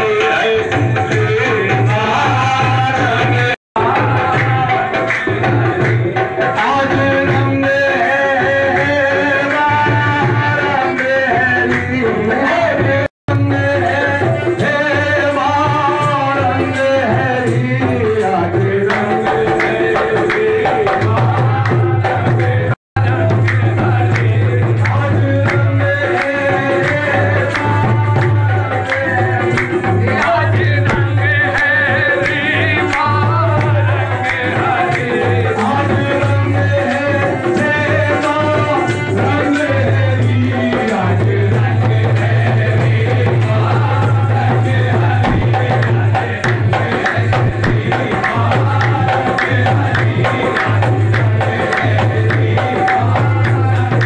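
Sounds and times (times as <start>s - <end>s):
hand drum beat: 0.0s - 54.0s
man singing into microphone: 0.0s - 54.0s.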